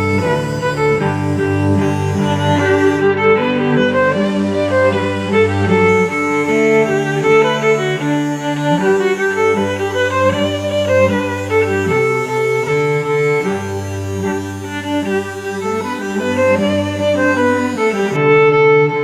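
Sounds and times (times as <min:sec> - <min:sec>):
cello playing sustained notes: 0:00.0 - 0:19.0
violin playing sustained notes: 0:00.0 - 0:19.0.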